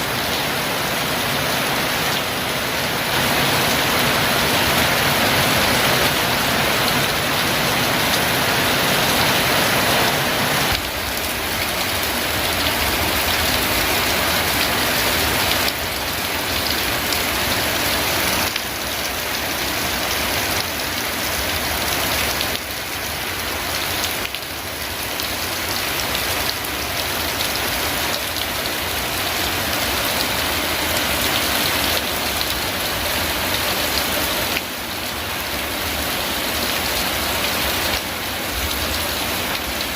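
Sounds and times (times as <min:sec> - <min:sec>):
heavy rain drumming: 0:00.0 - 0:39.9.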